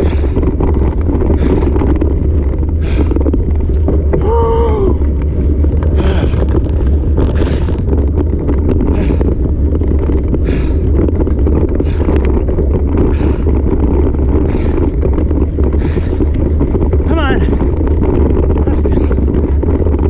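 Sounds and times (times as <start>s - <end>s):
bike rattling on dirt trail: 0.0s - 20.0s
wind buffeting microphone: 0.0s - 20.0s.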